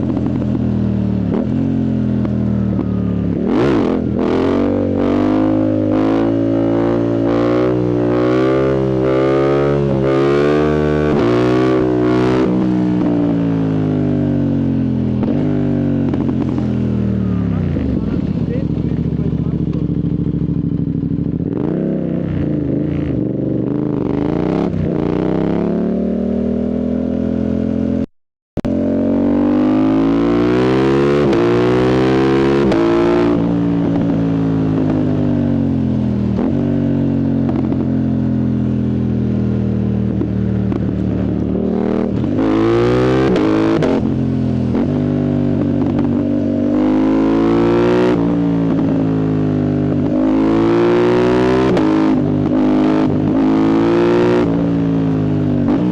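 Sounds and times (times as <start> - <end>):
motorcycle engine revving through gears: 0.0 - 55.9.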